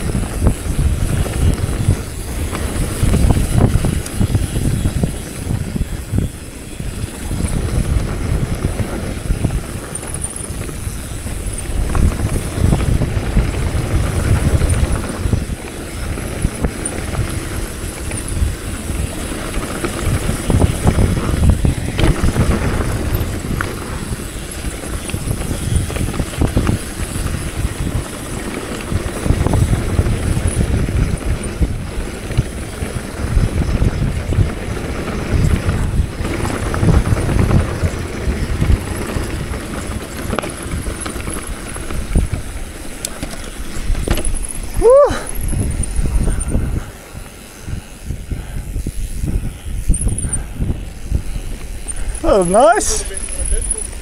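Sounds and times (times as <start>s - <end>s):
bike knocking and rattling: 0.0s - 54.0s
wind buffeting microphone: 0.0s - 54.0s.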